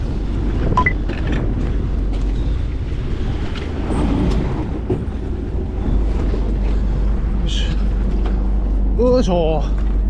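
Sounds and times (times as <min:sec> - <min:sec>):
boat engine low rumble: 0:00.0 - 0:10.0
wind buffeting microphone: 0:00.0 - 0:10.0.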